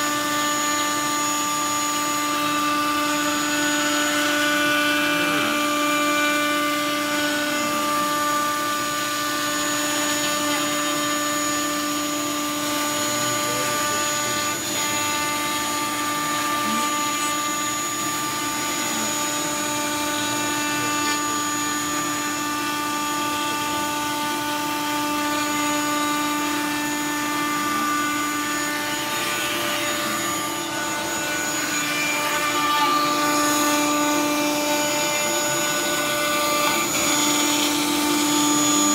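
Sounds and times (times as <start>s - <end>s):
bit cutting into plywood: 0.0s - 38.9s
router spindle motor whining: 0.0s - 38.9s.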